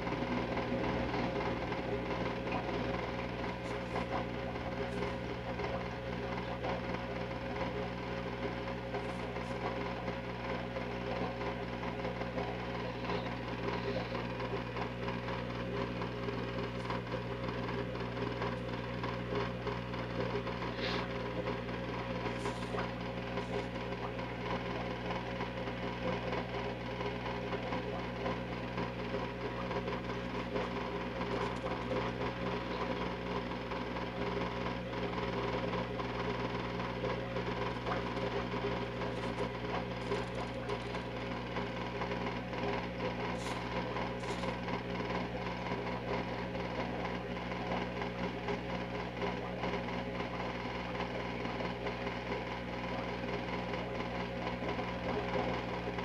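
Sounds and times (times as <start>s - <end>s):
motor humming: 0.0s - 56.0s.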